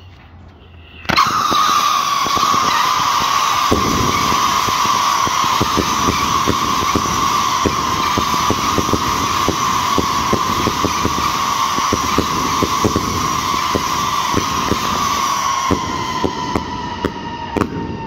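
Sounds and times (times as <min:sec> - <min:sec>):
fireworks whistling: 0:01.0 - 0:18.0
fireworks bangs: 0:01.1 - 0:18.0.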